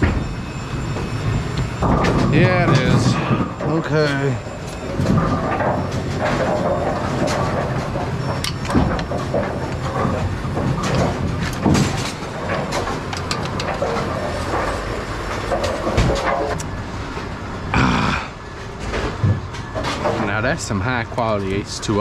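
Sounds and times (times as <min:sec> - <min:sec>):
bowling pinsetter machinery clattering: 0:00.0 - 0:17.7, 0:18.4 - 0:22.0.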